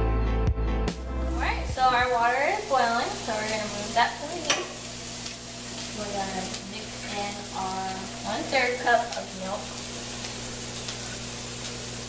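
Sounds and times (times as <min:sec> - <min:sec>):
chicken frying in a pan: 0:01.4 - 0:12.0.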